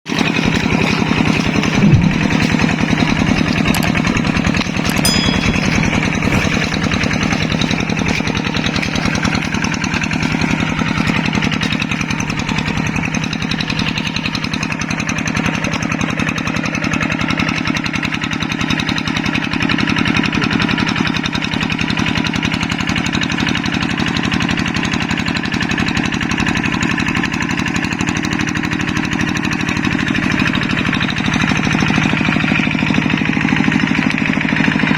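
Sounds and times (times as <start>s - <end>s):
tractor diesel engine chugging: 0.1s - 34.9s.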